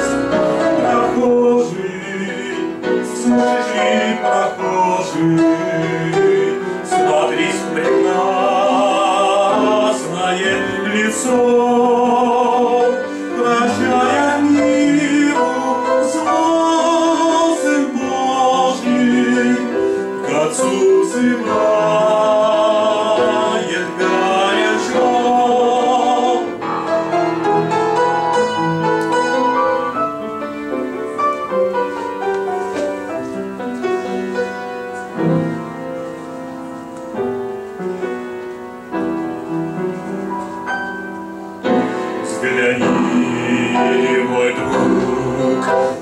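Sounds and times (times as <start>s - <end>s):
gospel keyboard melody: 0.0s - 46.0s.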